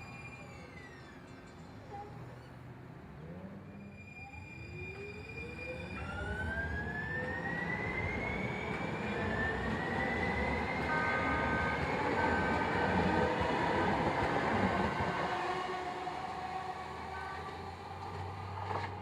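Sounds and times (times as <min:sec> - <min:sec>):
train traction motor whine: 0:00.0 - 0:19.0
wheels rumbling on rail: 0:00.0 - 0:19.0.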